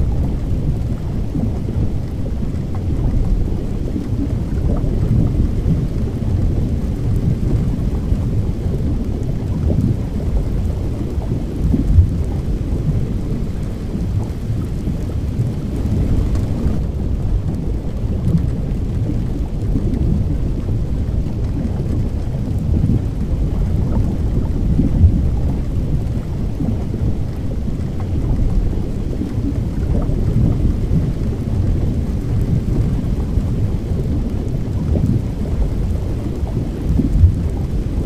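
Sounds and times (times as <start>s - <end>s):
rumble of thunder: 0.0s - 38.0s
steady rain: 0.0s - 38.0s.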